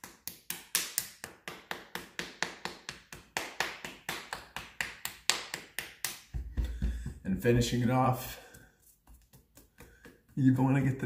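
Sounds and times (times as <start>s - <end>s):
hand slapping forearm: 0.0s - 7.6s, 8.5s - 10.6s.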